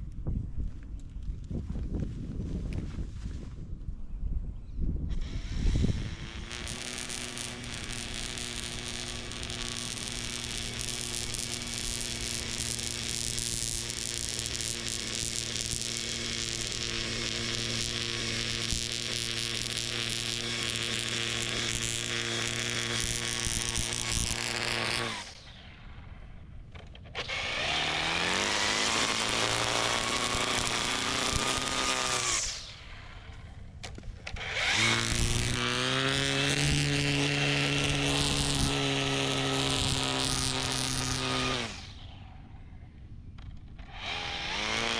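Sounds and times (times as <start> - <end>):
electric mower blade motors whining: 5.1 - 44.9.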